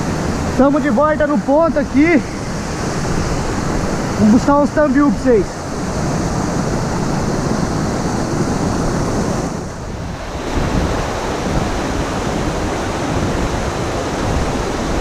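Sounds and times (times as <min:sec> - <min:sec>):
stream water rushing over rocks: 0:00.0 - 0:15.0
wind rumbling on microphone: 0:00.0 - 0:15.0.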